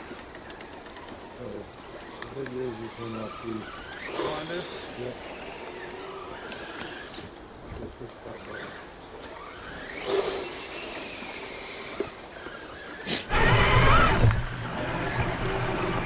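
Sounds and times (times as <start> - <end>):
electric motor whining and squealing: 0.0 - 16.0.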